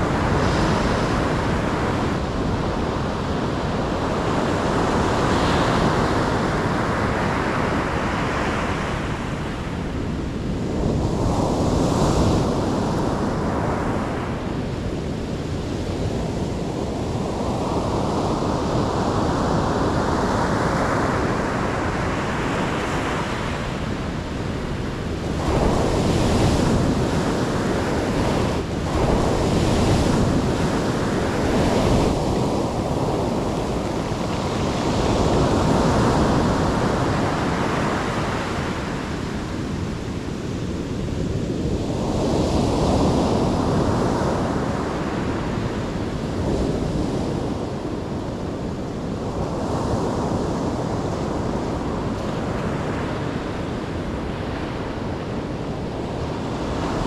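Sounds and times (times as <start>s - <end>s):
ocean waves breaking on shore: 0.0s - 57.0s
wind on microphone: 0.0s - 57.0s.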